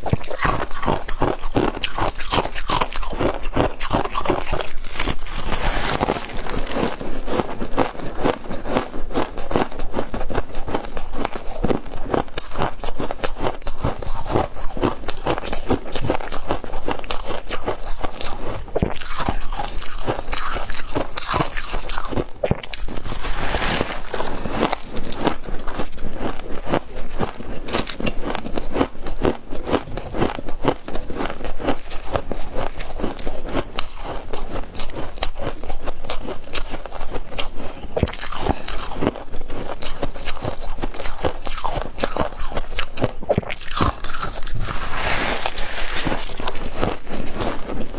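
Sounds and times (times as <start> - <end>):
crunching and chewing of frost: 0.0 - 47.9.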